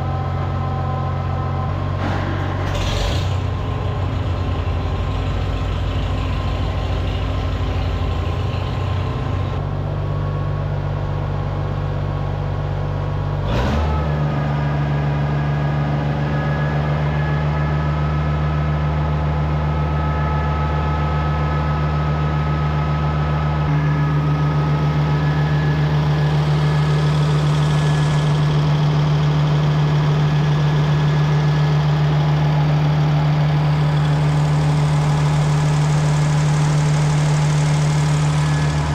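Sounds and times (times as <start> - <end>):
tractor engine running: 0.0 - 13.4, 14.0 - 38.9.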